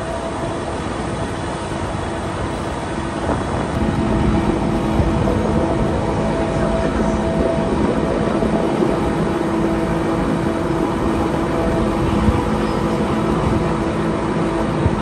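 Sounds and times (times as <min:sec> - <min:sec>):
low steady hum: 0:00.0 - 0:15.0
rushing air: 0:00.0 - 0:15.0
train wheels rumbling: 0:00.0 - 0:15.0.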